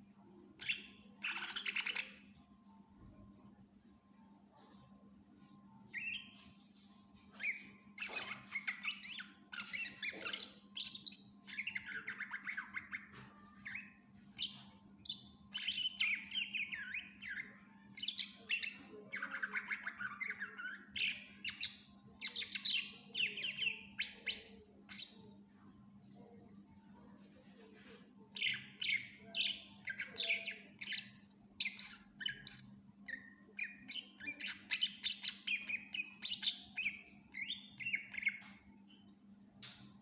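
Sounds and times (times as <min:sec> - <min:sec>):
faint low hum: 0:00.0 - 0:40.0
bird singing: 0:00.2 - 0:03.4, 0:07.2 - 0:27.3, 0:28.2 - 0:39.3.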